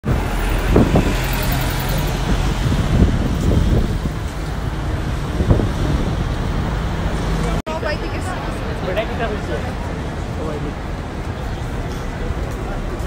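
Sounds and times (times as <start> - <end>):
bus running close by: 0.0 - 13.0
city street traffic: 0.0 - 13.0
passers-by voices: 0.1 - 13.0.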